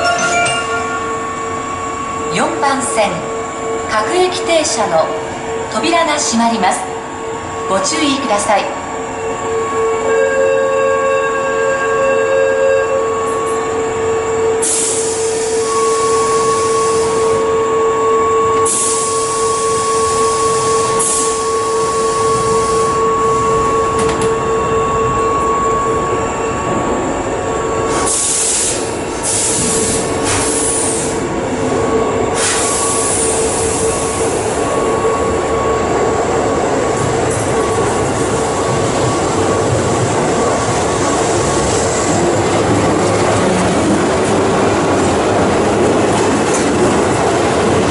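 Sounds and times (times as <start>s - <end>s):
electric train running with whine: 0.0s - 47.9s.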